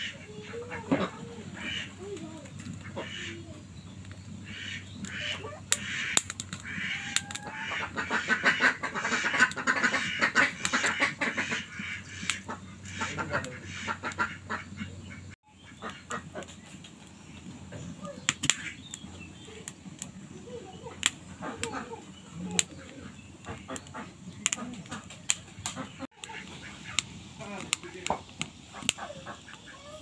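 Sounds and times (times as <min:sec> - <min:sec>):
ducks quacking: 0:00.0 - 0:17.1, 0:17.7 - 0:30.0.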